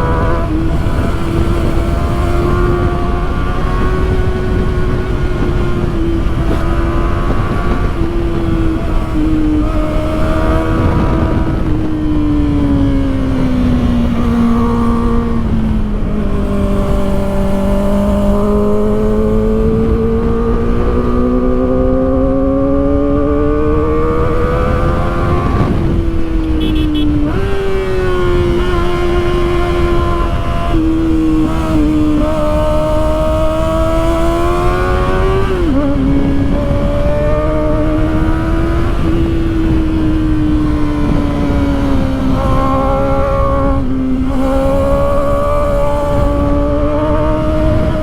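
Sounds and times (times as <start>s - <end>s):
motorcycle engine at high revs: 0.0s - 48.0s
wind and road noise: 0.0s - 48.0s.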